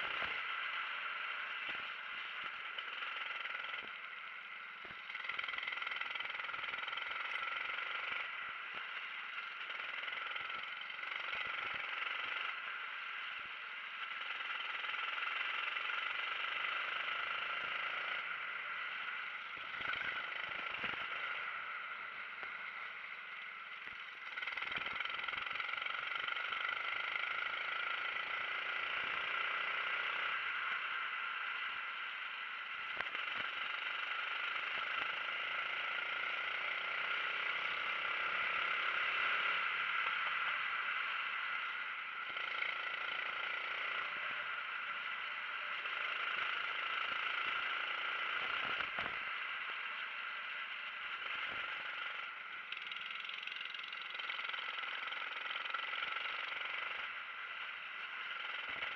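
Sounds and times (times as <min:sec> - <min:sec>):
kart engine revving: 0:00.0 - 0:04.0, 0:04.8 - 0:23.1, 0:23.8 - 0:30.9, 0:32.9 - 0:41.2, 0:42.2 - 0:49.8, 0:50.8 - 0:57.1, 0:58.1 - 0:58.9.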